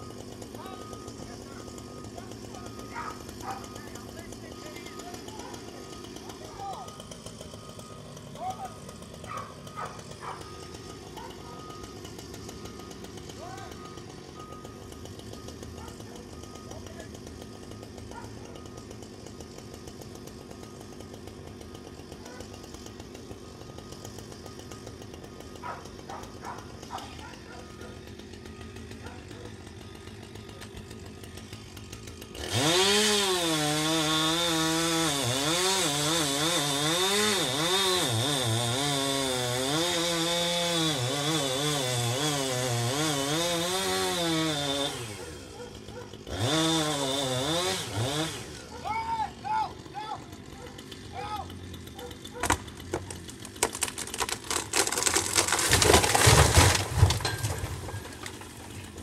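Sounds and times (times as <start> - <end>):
chainsaw cutting tree trunk: 0.0 - 59.0.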